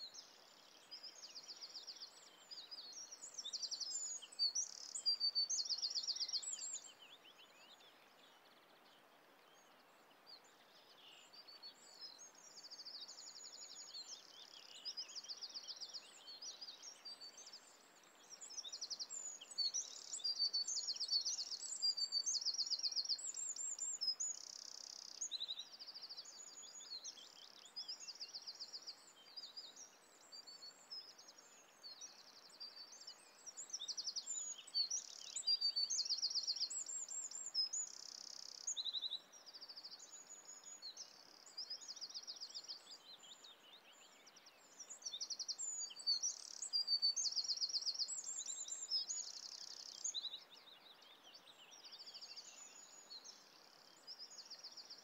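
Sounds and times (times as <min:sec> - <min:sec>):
faint steady hiss: 0:00.0 - 0:55.0
songbirds singing: 0:00.0 - 0:55.0.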